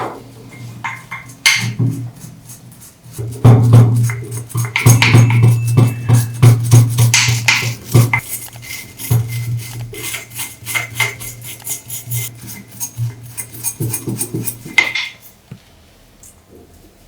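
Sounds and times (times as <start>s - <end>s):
metal scraping on metal: 0.6s - 15.4s.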